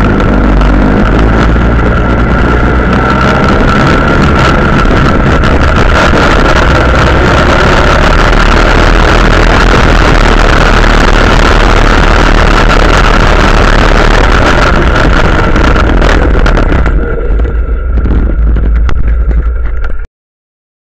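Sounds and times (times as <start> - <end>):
quad bike engine running: 0.0 - 20.1
wind rushing over microphone: 0.0 - 20.1.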